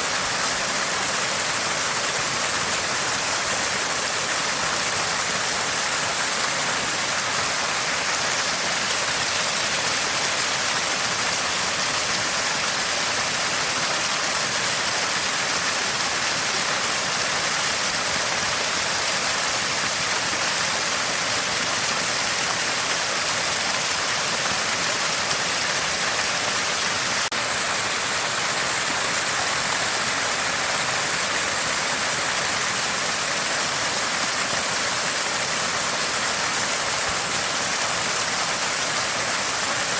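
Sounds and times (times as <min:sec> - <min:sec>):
spring water gushing and gurgling: 0:00.0 - 0:39.9.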